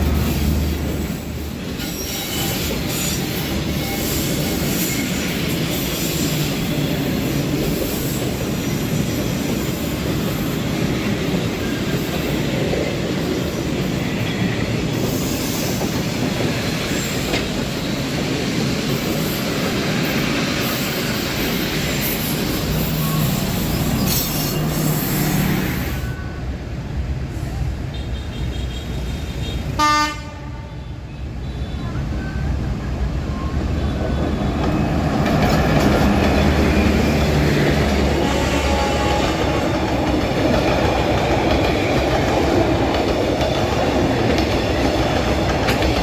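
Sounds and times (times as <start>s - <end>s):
train cars rumbling and rattling: 0.0s - 46.0s.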